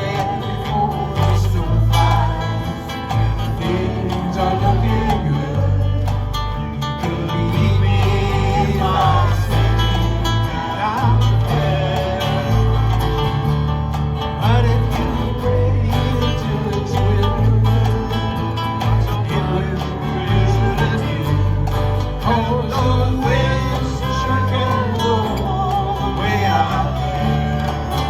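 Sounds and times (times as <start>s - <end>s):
steady bass: 0.0s - 28.0s
strummed guitars: 0.0s - 28.0s.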